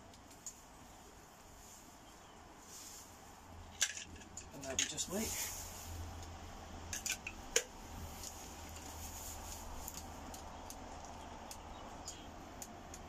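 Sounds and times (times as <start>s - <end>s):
steady low hiss: 0.0s - 13.0s
stick fire crackling: 0.0s - 13.0s.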